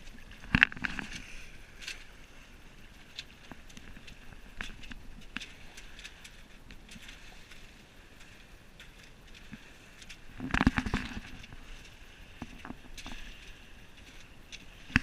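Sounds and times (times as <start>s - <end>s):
water washing against hull: 0.0s - 15.0s.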